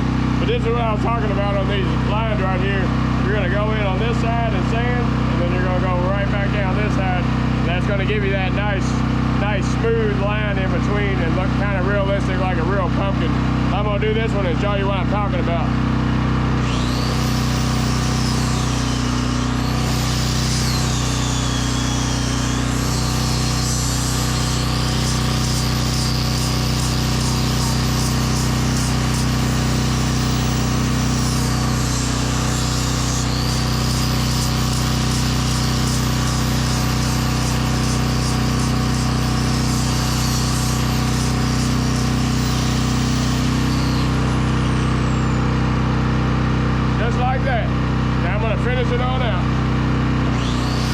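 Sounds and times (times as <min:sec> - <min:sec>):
generator humming: 0:00.0 - 0:50.9
power sander whining on wood: 0:00.0 - 0:50.9.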